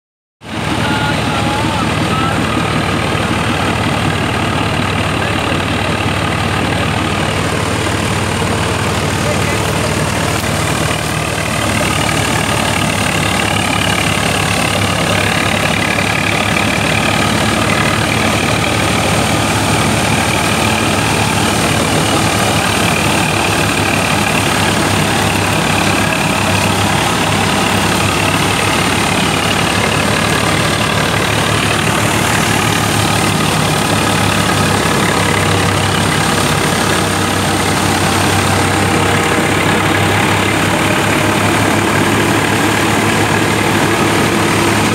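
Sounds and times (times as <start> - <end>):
steady mechanical whine: 0.4 - 44.9
tractor engine running under load: 0.4 - 44.9.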